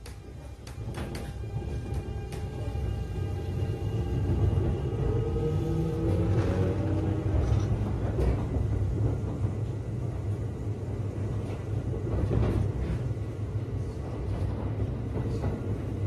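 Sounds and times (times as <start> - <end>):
rail joint clicks: 0.0 - 3.6, 4.2 - 16.0
train wheels rumbling on rail: 0.0 - 16.0.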